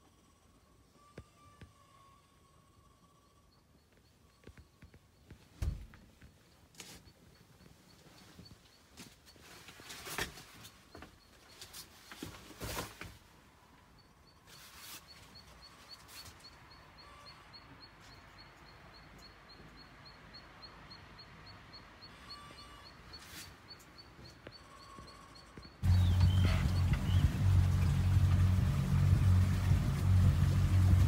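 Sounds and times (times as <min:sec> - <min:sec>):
outdoor background noise: 0:00.0 - 0:31.0
faint high chirp: 0:00.1 - 0:12.3, 0:14.0 - 0:27.6.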